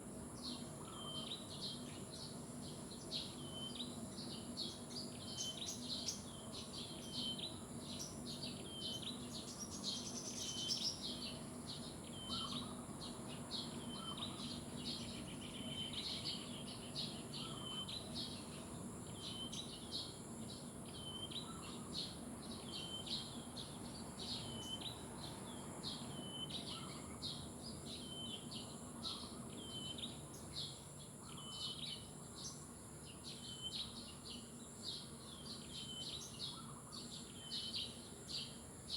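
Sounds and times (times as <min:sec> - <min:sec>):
small birds chirping: 0:00.3 - 0:38.9.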